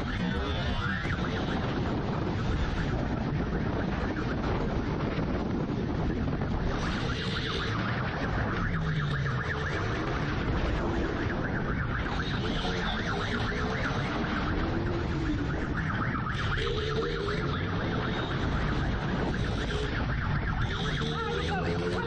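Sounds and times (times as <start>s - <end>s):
wind rush: 0.0s - 21.0s
police siren wailing: 0.0s - 22.0s.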